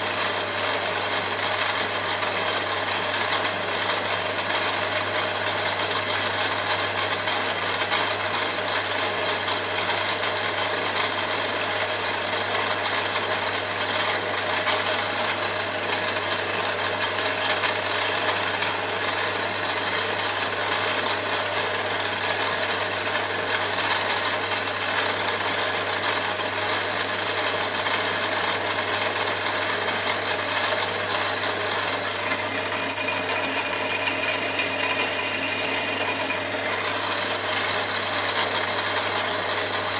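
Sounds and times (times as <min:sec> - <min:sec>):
milling machine spindle humming: 0:00.0 - 0:22.4, 0:26.8 - 0:39.9.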